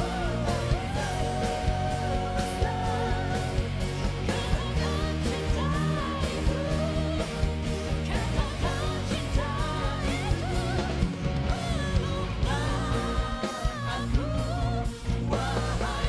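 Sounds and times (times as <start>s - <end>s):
pop-rock band playing: 0.0s - 16.0s.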